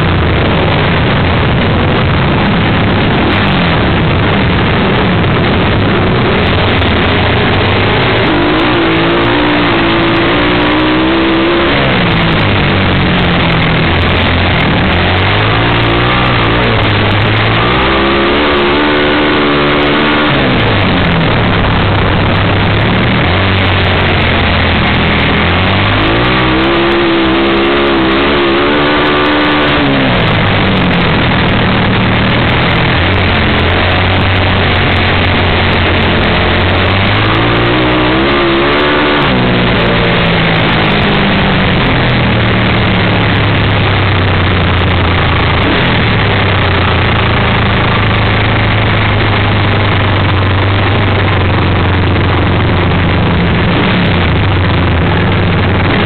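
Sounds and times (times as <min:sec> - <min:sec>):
wind rushing: 0:00.0 - 0:46.8
racing motorcycle engine: 0:00.0 - 0:56.0.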